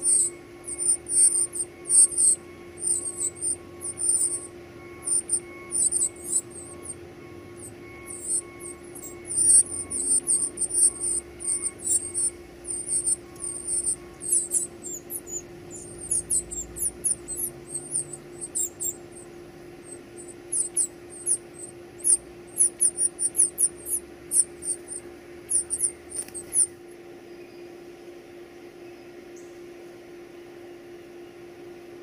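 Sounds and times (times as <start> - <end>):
nestlings squeaky begging peeps: 0.0 - 26.8
steady low hum: 0.0 - 32.0.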